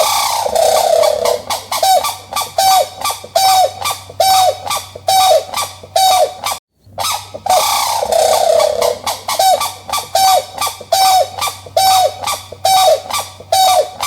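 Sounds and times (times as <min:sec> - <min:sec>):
waterfowl honking calls: 0:00.0 - 0:14.0.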